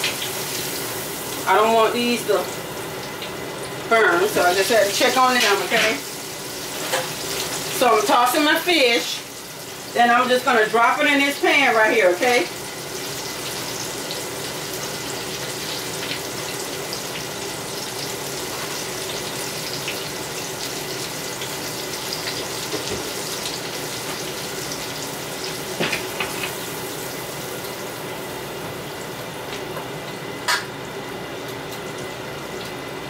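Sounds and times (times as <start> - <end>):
fish sizzling in hot grease: 0.0 - 29.6.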